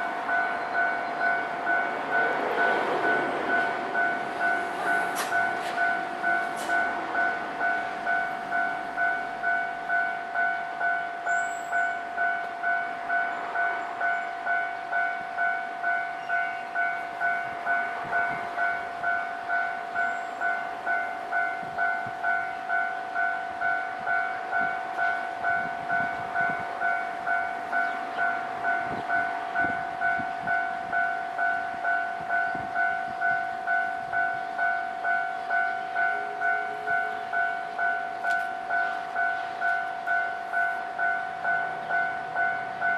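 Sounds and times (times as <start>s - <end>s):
level-crossing warning bell ringing: 0.0s - 42.9s.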